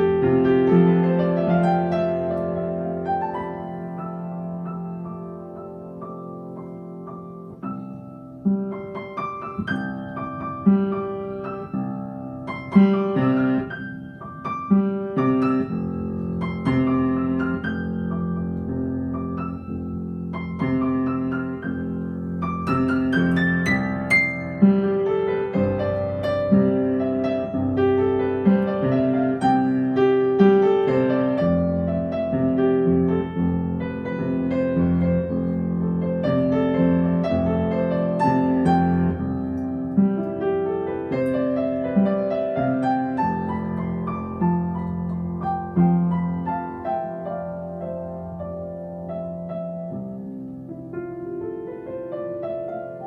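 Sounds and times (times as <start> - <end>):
solo piano music: 0.0 - 53.0.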